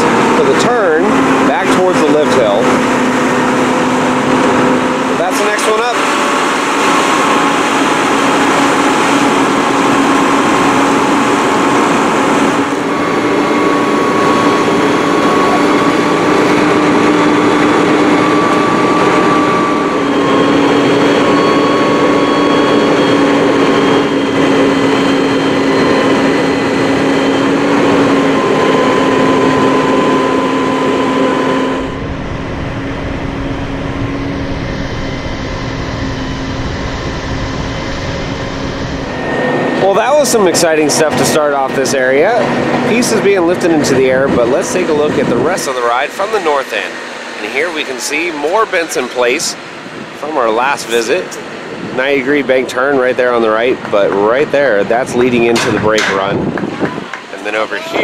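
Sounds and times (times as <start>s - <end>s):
crane engine whining drone: 0.0s - 58.0s.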